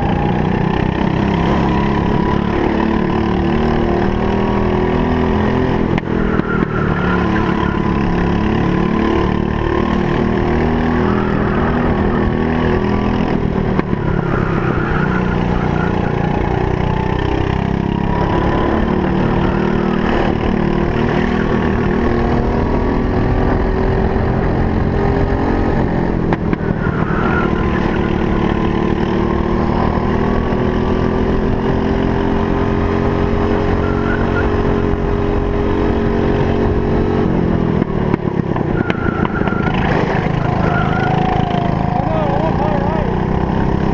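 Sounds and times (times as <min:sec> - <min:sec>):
kart engine accelerating: 0:00.0 - 0:43.9.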